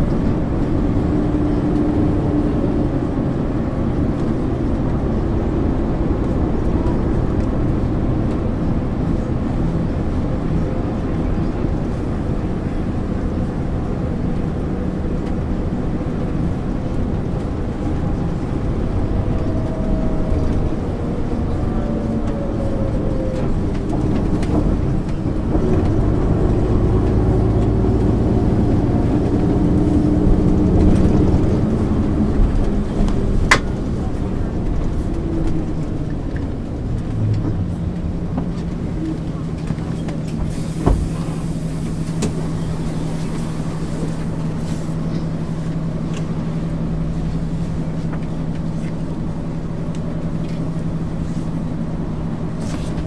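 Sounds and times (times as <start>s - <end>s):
bus diesel engine running: 0.0s - 53.0s
drivetrain whine: 0.0s - 53.0s.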